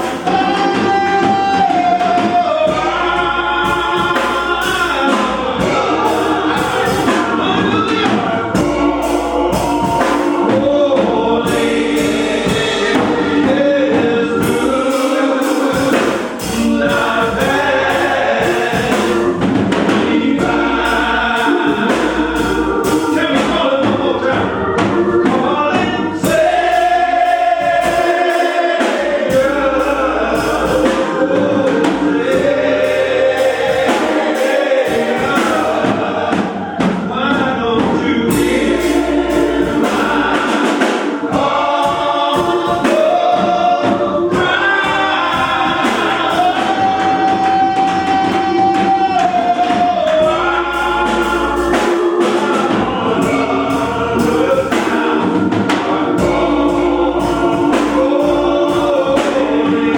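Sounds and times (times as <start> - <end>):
gospel choir singing a hymn: 0.0 - 59.9
instrumental accompaniment: 0.0 - 59.9.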